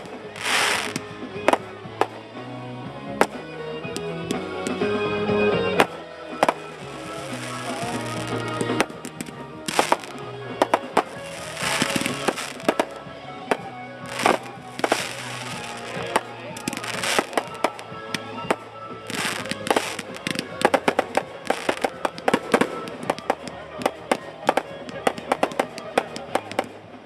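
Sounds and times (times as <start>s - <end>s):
firework shells bursting: 0.0s - 2.2s, 5.8s - 26.8s
fireworks crackling hiss: 0.0s - 5.0s, 5.7s - 27.0s
music playing: 0.0s - 27.0s.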